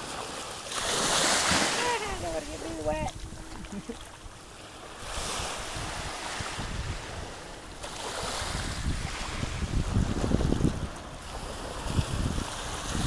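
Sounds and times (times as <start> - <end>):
small waves washing ashore: 0.0 - 13.0
wind rumbling on microphone: 0.8 - 13.0.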